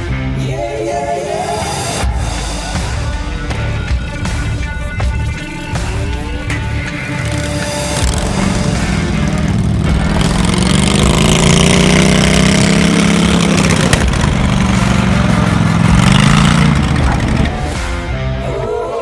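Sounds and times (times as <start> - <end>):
engine running: 2.7 - 18.4.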